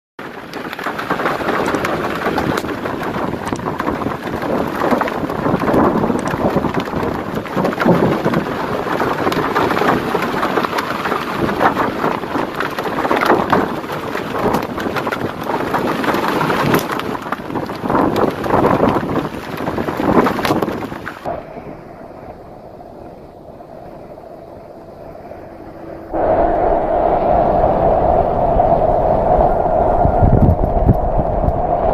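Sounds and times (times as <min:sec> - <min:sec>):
heavy rain rushing: 0:00.2 - 0:31.9.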